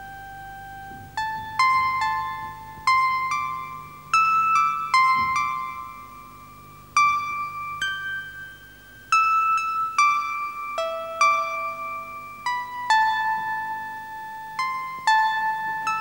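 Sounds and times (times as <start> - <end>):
music box tinkling melody: 0.0 - 16.0.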